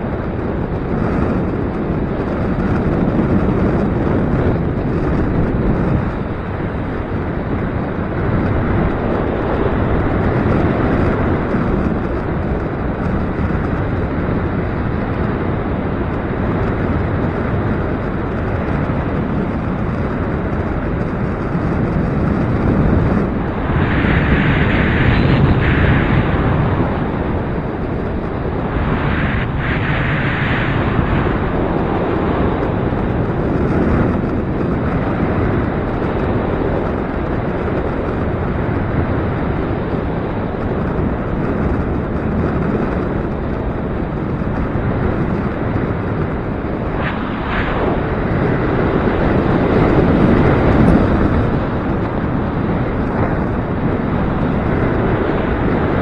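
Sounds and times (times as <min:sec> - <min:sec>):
gusty wind buffeting microphone: 0:00.0 - 0:56.0.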